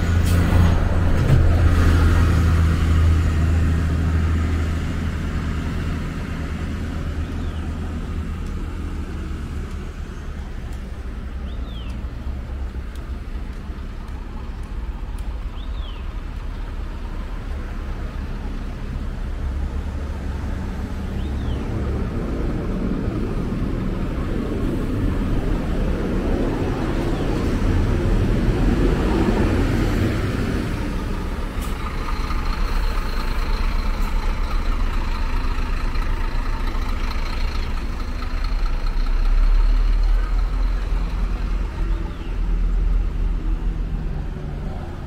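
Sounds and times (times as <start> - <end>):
vehicle engine rumbling: 0.0 - 45.0.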